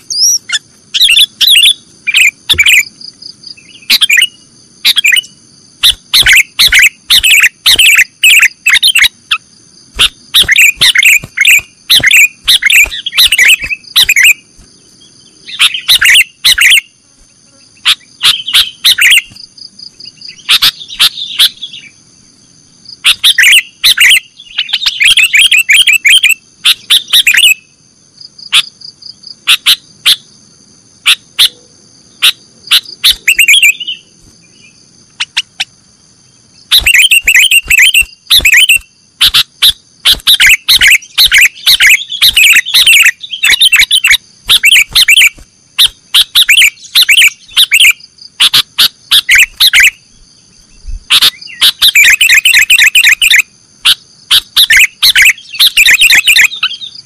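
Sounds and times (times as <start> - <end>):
bird chirping rapidly: 0.0 - 17.0, 17.8 - 22.0, 22.9 - 27.7, 32.2 - 35.7, 36.4 - 57.0.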